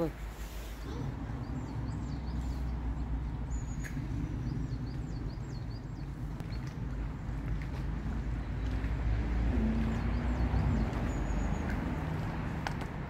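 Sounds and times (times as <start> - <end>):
songbird chirping: 0.6 - 13.0
low rumble: 0.9 - 11.6.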